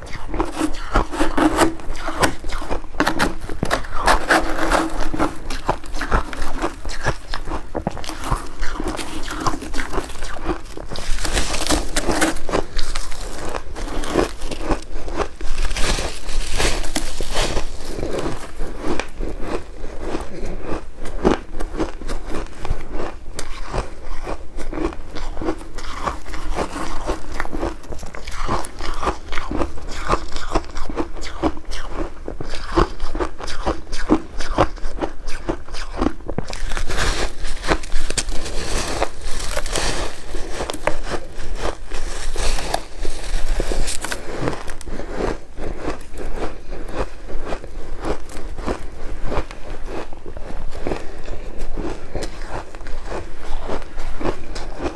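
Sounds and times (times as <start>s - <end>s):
ice crunched between teeth: 0.0s - 54.9s.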